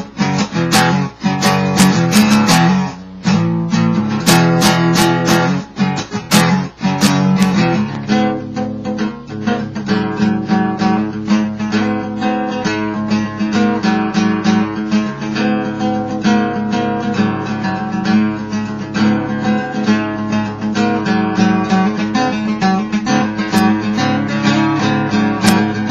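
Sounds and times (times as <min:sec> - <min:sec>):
acoustic guitar picking and strumming: 0:00.0 - 0:25.9.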